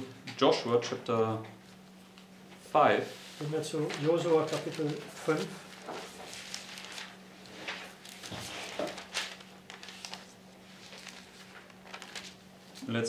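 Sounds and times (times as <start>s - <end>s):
steady low hum: 0.0s - 13.0s
paper pages rustling: 1.7s - 13.0s.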